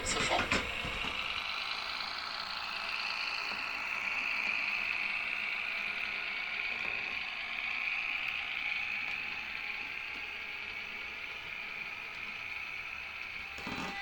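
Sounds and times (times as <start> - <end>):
model train mechanical whir: 0.0 - 14.0.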